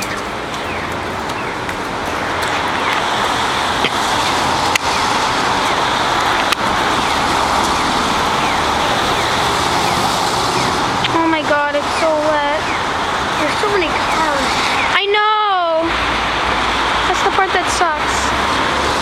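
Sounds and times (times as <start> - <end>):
car traffic on wet street: 0.0 - 19.0
rain: 0.0 - 19.0.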